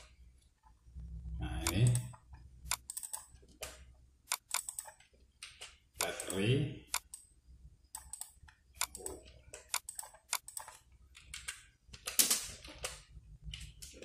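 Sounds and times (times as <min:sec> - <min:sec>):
computer keyboard typing: 0:01.6 - 0:07.3, 0:07.9 - 0:14.0.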